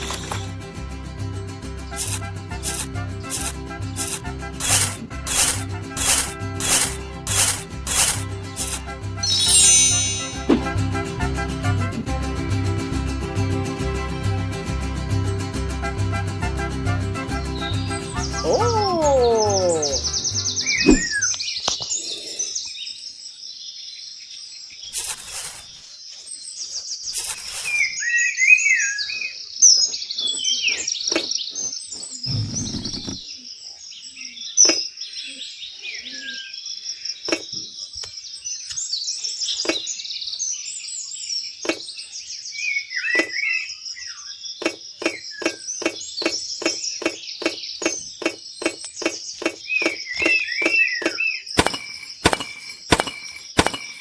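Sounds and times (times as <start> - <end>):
small birds chirping: 0.0 - 0.7, 1.4 - 10.5, 17.4 - 54.0.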